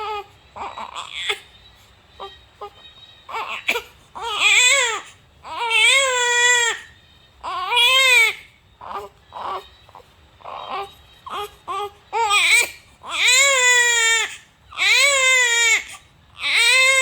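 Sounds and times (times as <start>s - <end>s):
infant crying: 0.0s - 1.5s, 2.2s - 17.0s.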